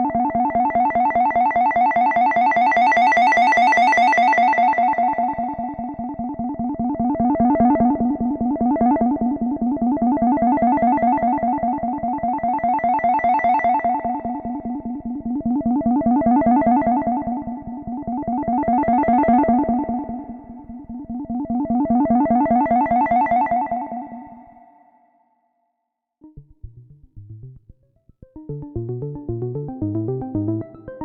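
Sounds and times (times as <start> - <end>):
synthesizer sequenced pattern: 0.0 - 24.7, 26.2 - 31.0.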